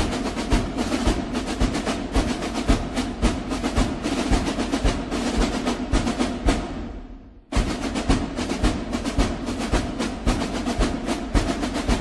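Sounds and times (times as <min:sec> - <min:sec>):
snare drum rolls: 0:00.0 - 0:12.0
steady bass drum beat: 0:00.0 - 0:12.0.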